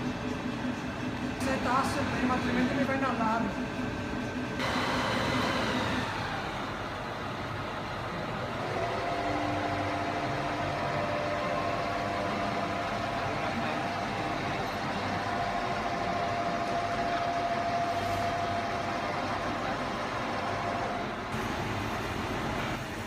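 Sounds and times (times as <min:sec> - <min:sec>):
machine drive whine: 0:00.0 - 0:23.0
machine mechanical hum: 0:00.0 - 0:23.0.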